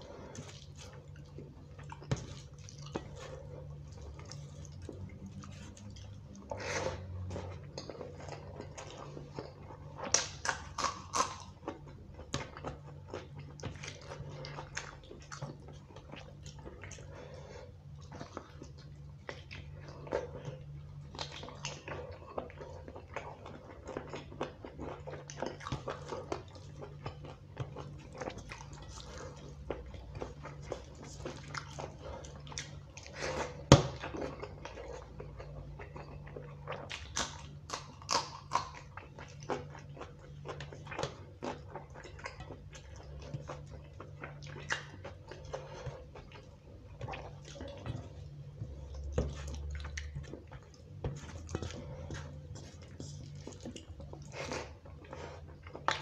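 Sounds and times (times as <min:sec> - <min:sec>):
chewing: 0:00.0 - 0:56.0.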